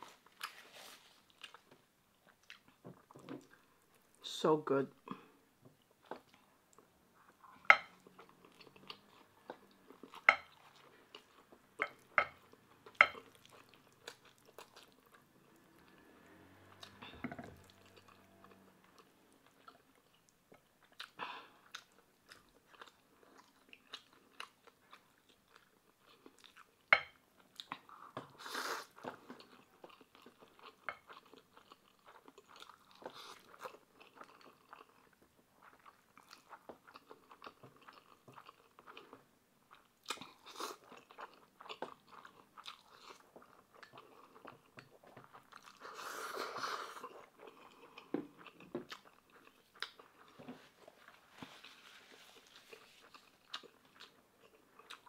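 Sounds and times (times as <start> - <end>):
chewing and crunching: 0.0 - 3.9, 5.8 - 15.3, 16.7 - 55.0.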